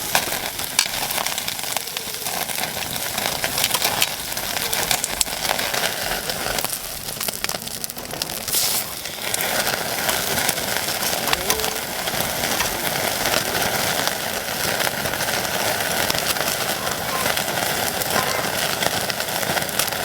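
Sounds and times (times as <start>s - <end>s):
fat popping and crackling: 0.0s - 20.0s
meat sizzling on a grill: 0.0s - 20.0s.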